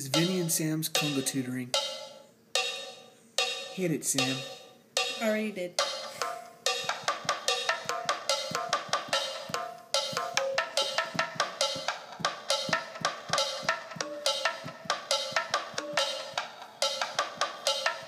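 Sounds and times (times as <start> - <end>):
thin hand-drum rhythm from phone speaker: 0.0 - 18.0.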